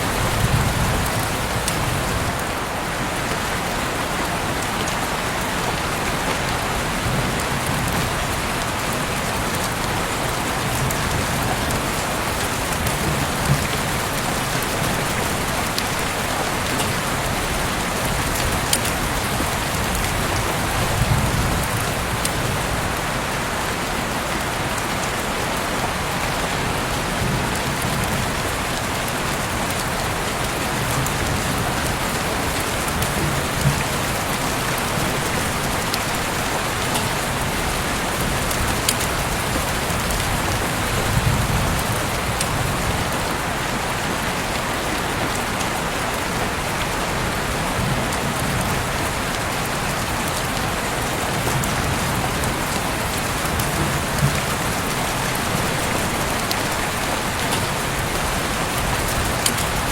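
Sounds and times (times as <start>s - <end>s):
heavy rain hiss: 0.0s - 59.9s
raindrops ticking on a surface: 0.0s - 59.9s.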